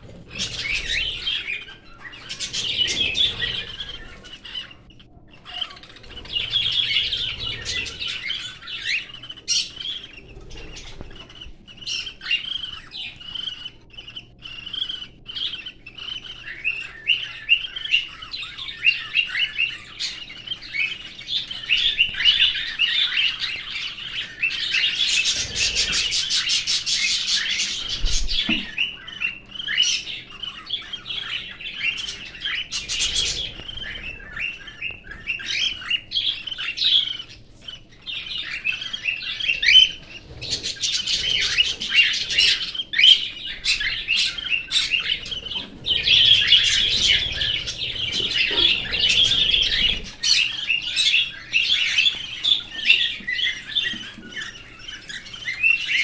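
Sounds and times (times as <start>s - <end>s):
cockatiels chirping: 0.0s - 56.0s
fast rattling bird chatter: 0.0s - 56.0s.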